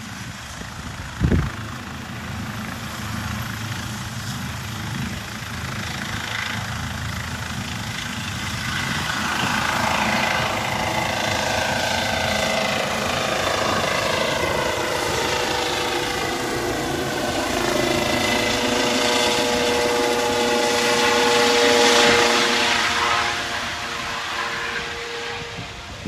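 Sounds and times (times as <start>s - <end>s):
helicopter rotor noise: 0.0s - 26.0s
helicopter turbine whine: 0.0s - 26.0s.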